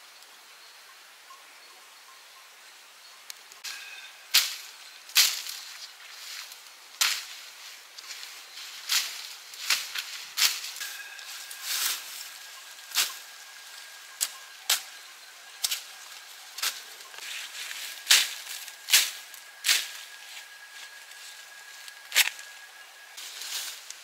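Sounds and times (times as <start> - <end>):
thin high whine: 3.6 - 24.0.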